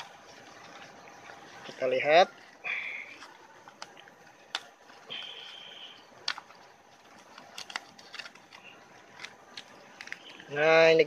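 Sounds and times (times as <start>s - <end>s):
dry leaf crackling and rustling: 0.0s - 11.0s.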